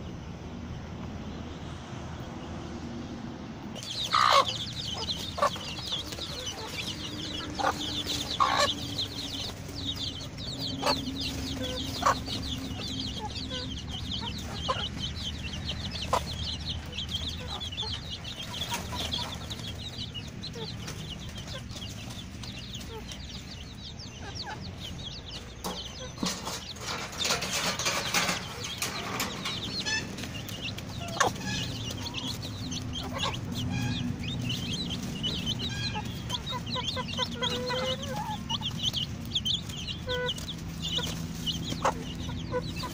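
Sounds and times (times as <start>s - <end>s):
chickens peeping and clucking: 0.0s - 42.9s.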